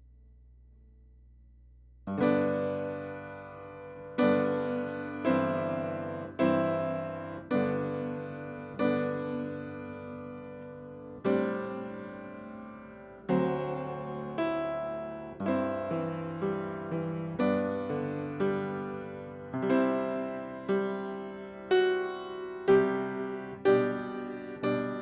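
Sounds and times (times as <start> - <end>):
piano playing slow chords: 2.1 - 25.0.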